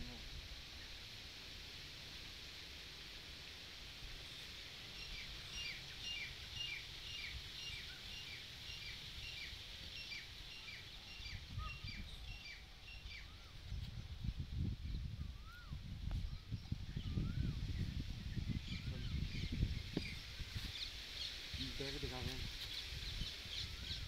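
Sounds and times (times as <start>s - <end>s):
small bird chirping: 4.2s - 24.0s.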